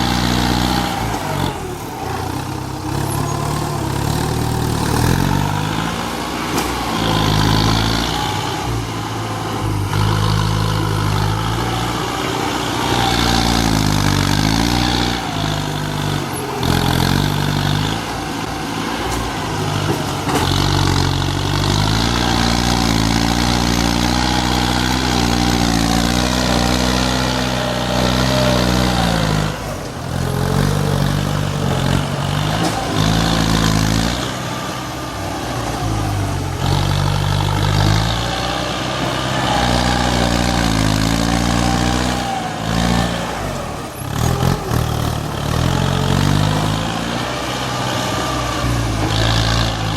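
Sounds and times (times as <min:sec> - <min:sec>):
tractor diesel engine revving: 0:00.0 - 0:49.9.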